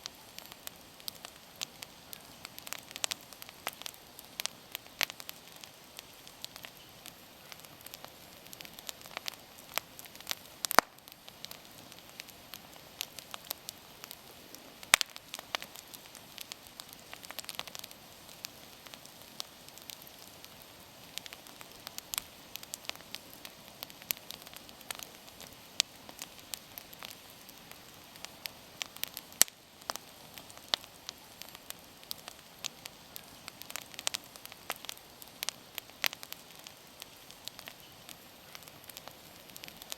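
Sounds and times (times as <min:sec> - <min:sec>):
campfire crackling and popping: 0:00.0 - 0:39.9
soft steady hiss: 0:00.0 - 0:39.9.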